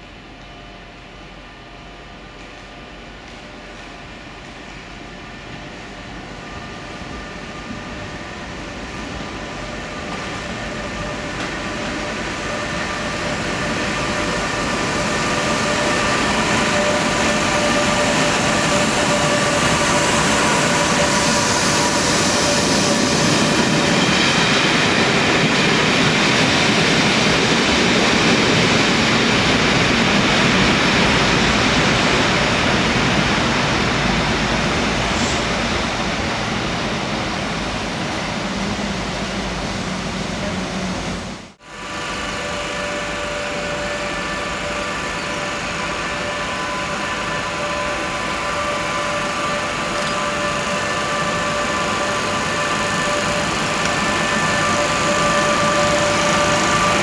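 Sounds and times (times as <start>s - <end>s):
electric locomotive whine: 0.0s - 57.0s.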